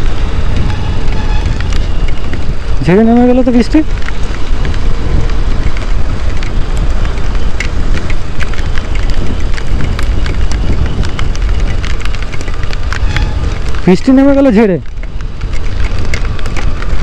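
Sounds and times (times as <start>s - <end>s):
raindrops ticking on camera: 0.0s - 17.0s
wind rushing over microphone: 0.0s - 17.0s.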